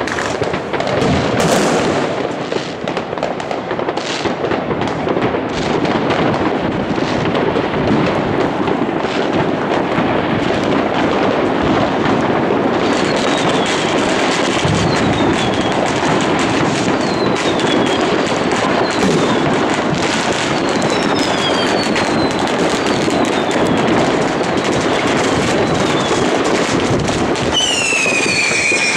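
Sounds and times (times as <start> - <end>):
fireworks bangs and crackling: 0.0 - 28.9.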